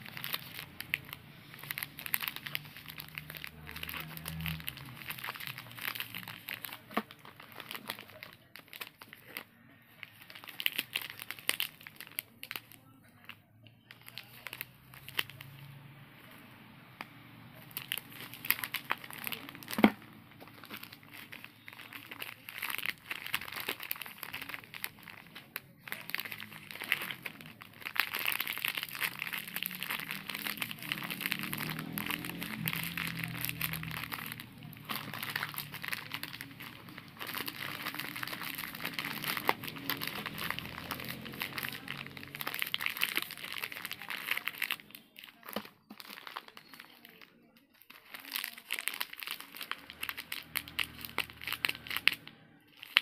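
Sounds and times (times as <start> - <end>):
plastic wrappers crinkling: 0.0 - 53.0.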